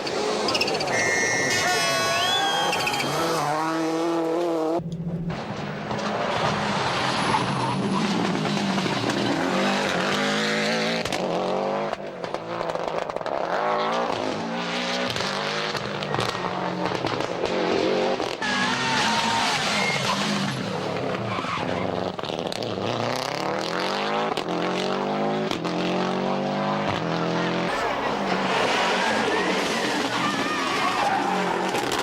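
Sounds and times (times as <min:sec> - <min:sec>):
rally car engine revving hard: 0:02.3 - 0:04.8, 0:05.4 - 0:32.0.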